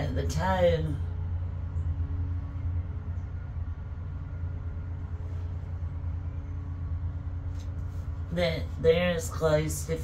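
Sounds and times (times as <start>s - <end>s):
faint machine hum: 0.0s - 10.0s
low background rumble: 0.0s - 10.0s.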